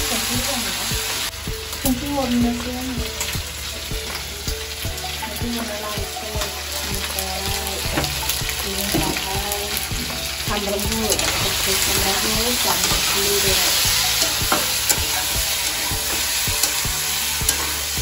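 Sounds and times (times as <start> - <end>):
fish sizzling in a pan: 0.0 - 18.0.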